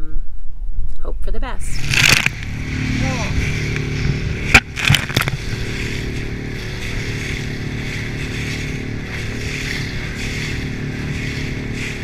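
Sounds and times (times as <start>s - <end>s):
outboard motor running: 1.6s - 12.0s
wind and water hiss: 1.7s - 12.0s.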